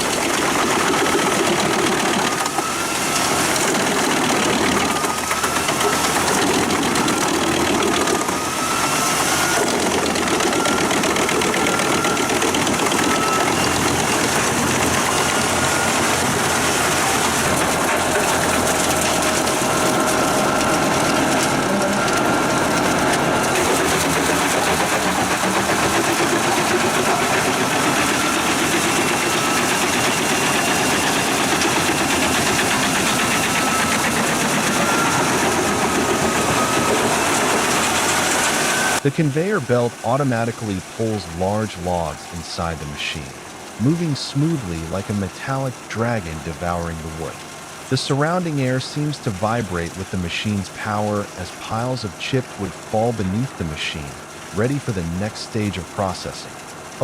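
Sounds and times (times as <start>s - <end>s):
tractor engine running: 0.0s - 57.0s
wood chipper blades cutting wood: 0.0s - 57.0s.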